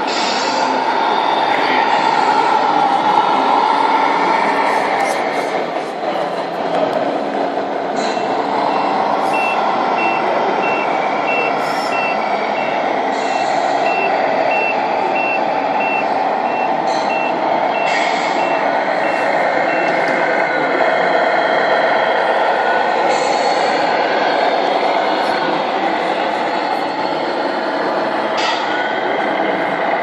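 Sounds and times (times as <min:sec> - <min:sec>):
loud background noise: 0:00.0 - 0:30.0.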